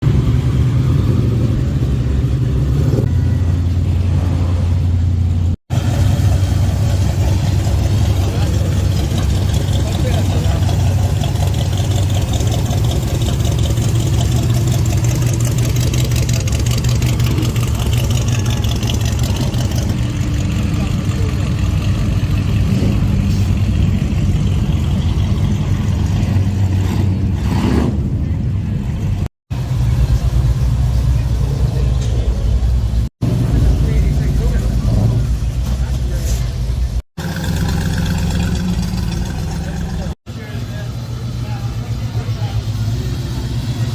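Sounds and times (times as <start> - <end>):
car engines driving past: 0.0 - 43.9.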